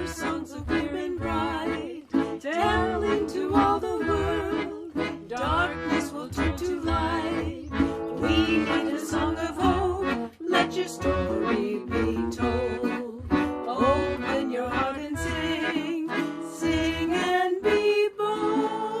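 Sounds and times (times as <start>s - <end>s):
gentle folk instrumental music: 0.0s - 19.0s.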